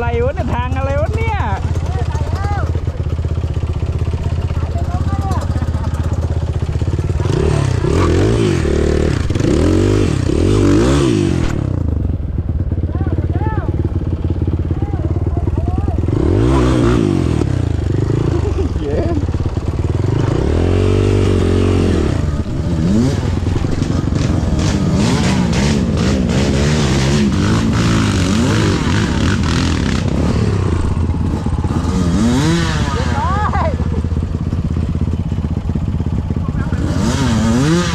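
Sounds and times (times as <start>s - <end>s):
off-road vehicle engine revving: 3.3s - 12.0s, 14.5s - 37.9s.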